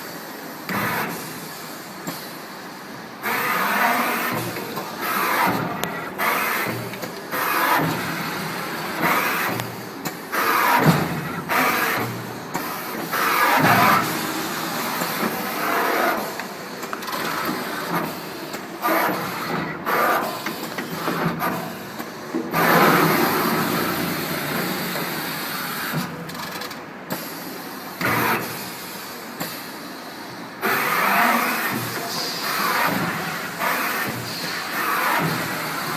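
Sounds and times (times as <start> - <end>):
printing machine running: 0.0 - 35.9.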